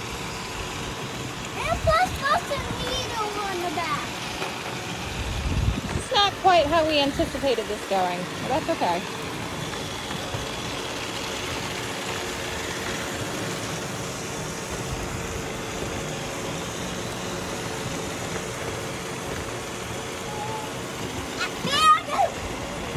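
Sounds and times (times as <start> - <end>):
robot vacuums whirring: 0.0 - 22.9.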